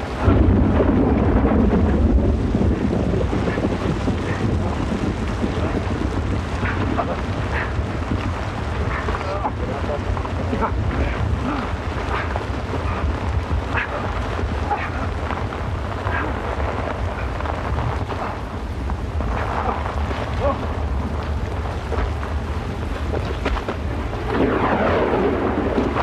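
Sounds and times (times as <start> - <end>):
deep rumble: 0.0 - 26.0
heavy rain downpour: 0.0 - 26.0.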